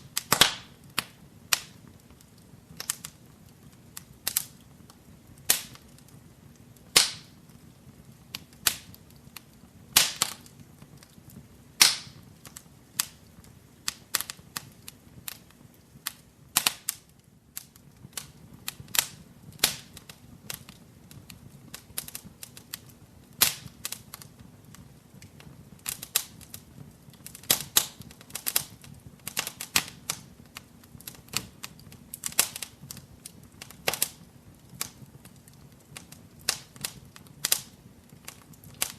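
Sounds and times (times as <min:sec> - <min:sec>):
low hiss of flames: 0:00.0 - 0:38.9
wood fire crackling and popping: 0:00.0 - 0:38.9.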